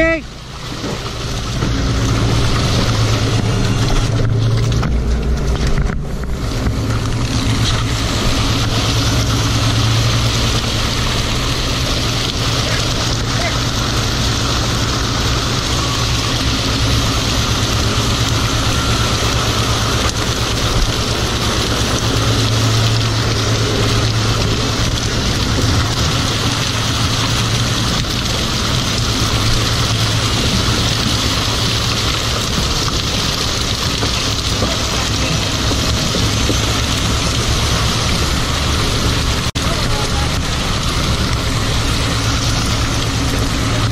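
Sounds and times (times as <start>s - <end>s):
boat engine and deck machinery: 0.0s - 43.9s.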